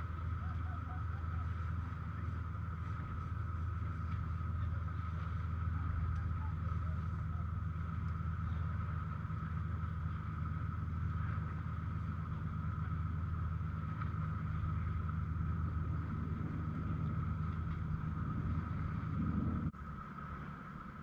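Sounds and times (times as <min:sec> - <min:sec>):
constant higher hum: 0:00.0 - 0:21.0
low engine drone: 0:00.0 - 0:21.0.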